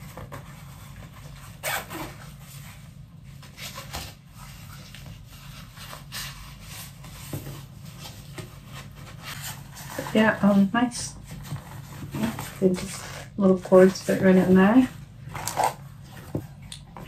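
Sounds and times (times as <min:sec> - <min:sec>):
rustling of cords and plastic: 0:00.0 - 0:17.0.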